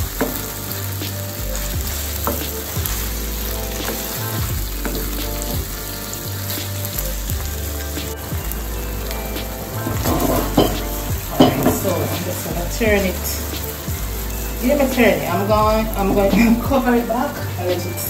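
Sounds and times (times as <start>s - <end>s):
fish sizzling in a frying pan: 0.0s - 18.0s.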